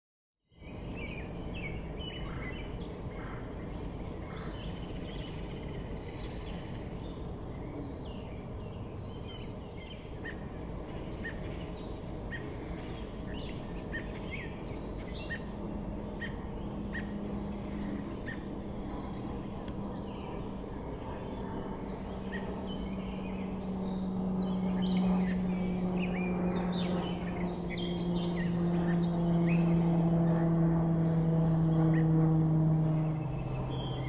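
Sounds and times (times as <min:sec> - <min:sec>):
songbirds chirping: 0:00.5 - 0:34.0
low background rumble: 0:00.6 - 0:34.0.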